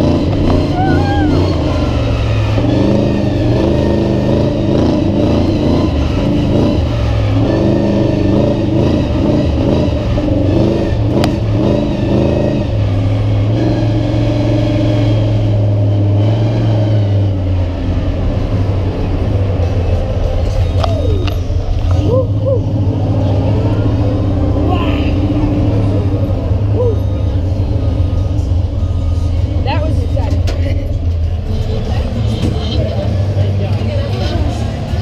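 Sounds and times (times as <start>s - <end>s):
monster truck engine revving: 0.0s - 35.0s.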